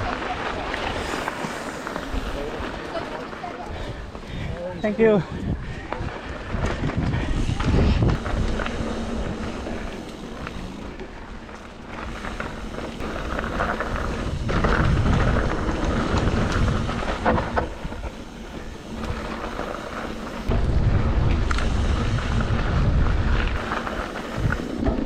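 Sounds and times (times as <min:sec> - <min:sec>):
wind buffeting microphone: 0:03.6 - 0:11.0, 0:12.0 - 0:25.0.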